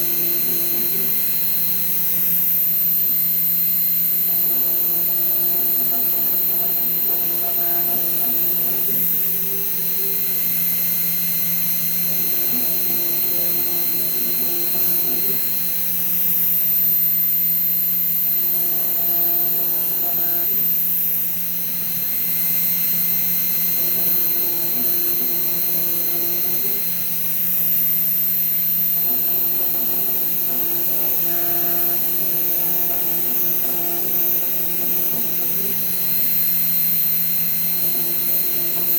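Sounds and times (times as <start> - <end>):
spindle hum with high whine: 0.0 - 38.9.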